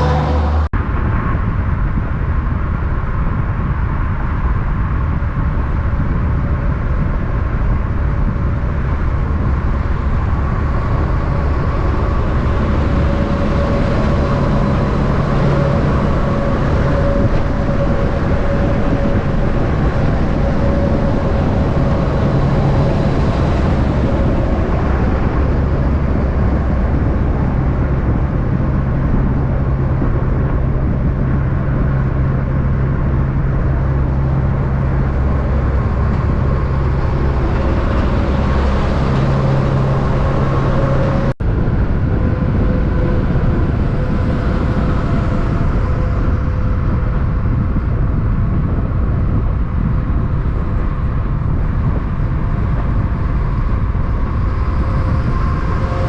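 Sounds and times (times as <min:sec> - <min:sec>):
low engine drone: 0:00.0 - 0:56.0
tyre and road noise: 0:00.0 - 0:56.0
whine: 0:00.0 - 0:56.0.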